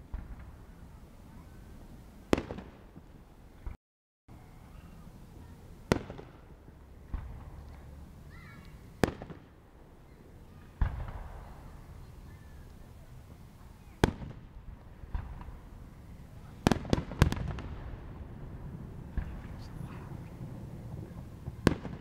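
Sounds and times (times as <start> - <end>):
fireworks bangs with echoing rumble: 0.0 - 3.8, 4.7 - 22.0.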